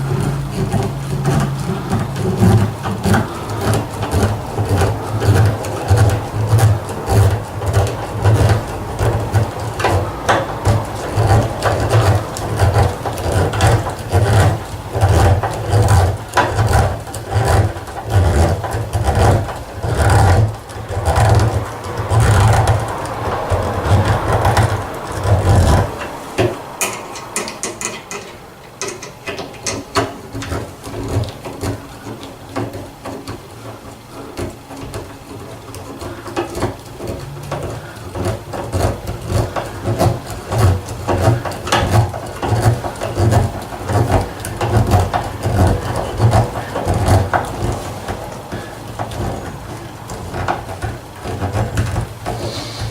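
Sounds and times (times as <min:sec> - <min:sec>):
tool scraping wood: 0:00.0 - 0:52.9.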